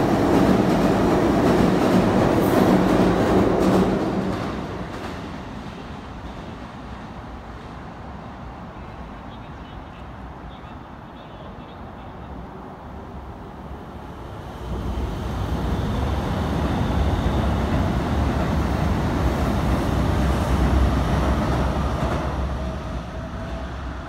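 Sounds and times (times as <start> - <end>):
train passing on rails: 0.0 - 24.0.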